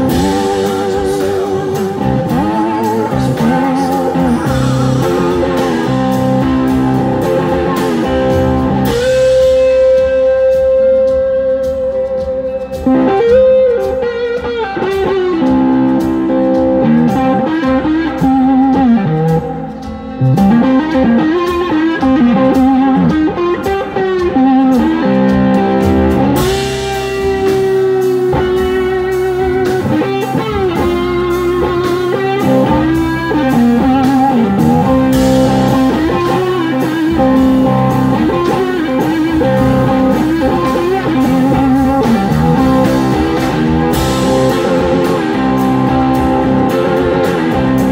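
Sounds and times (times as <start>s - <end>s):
blues-rock band playing: 0.0s - 47.9s
electric slide guitar solo: 0.0s - 47.9s.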